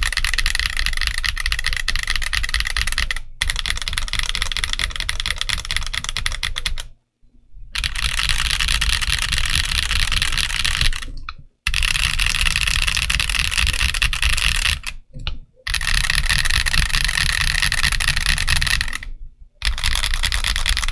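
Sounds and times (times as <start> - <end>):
fast typing on mechanical keyboard: 0.0 - 6.9, 7.8 - 15.0, 15.7 - 20.9.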